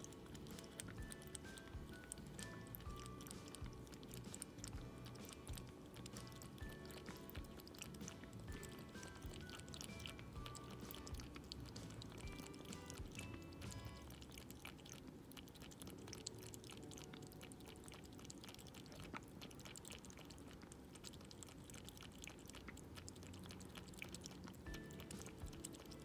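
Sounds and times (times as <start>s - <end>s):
cat chewing and licking: 0.0s - 26.0s.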